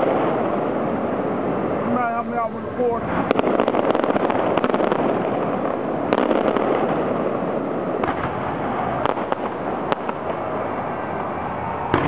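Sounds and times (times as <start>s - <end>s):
dense rushing noise: 0.0s - 12.0s
fireworks bangs: 0.0s - 12.0s.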